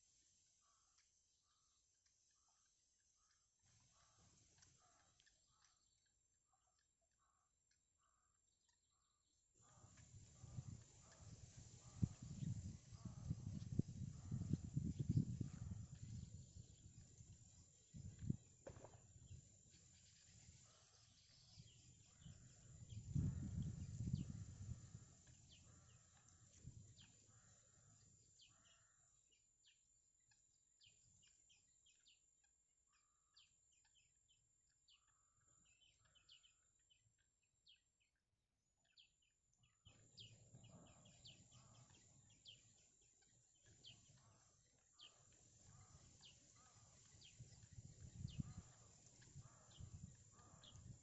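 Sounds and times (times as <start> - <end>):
faint bird chirps: 0.0 - 51.0.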